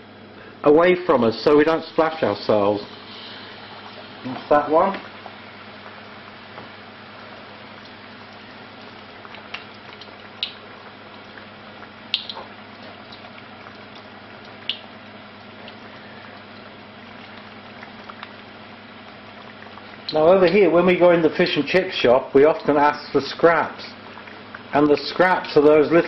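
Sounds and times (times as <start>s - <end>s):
fish deep-frying in oil: 0.0s - 26.0s.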